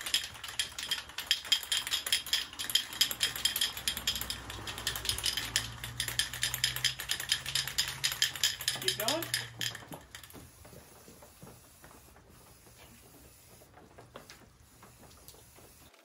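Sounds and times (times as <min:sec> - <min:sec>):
spray paint cans rattling: 0:00.0 - 0:16.0.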